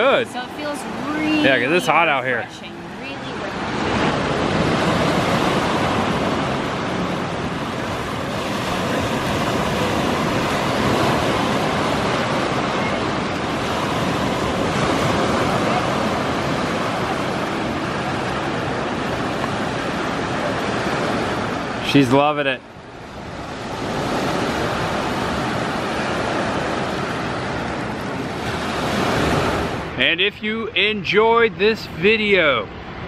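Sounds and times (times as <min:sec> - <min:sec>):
surf breaking on sand: 0:00.0 - 0:32.6.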